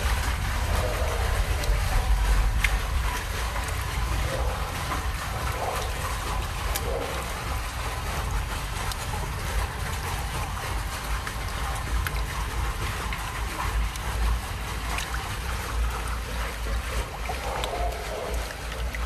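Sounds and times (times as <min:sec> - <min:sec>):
water splashing and rushing: 0:00.0 - 0:19.0.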